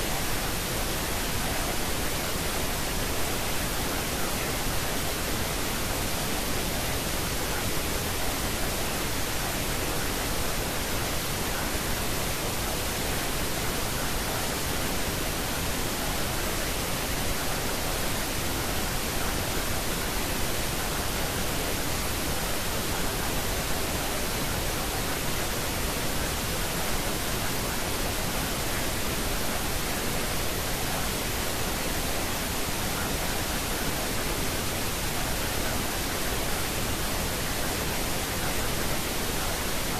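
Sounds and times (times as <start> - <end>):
steady broadband noise hiss: 0.0 - 39.9.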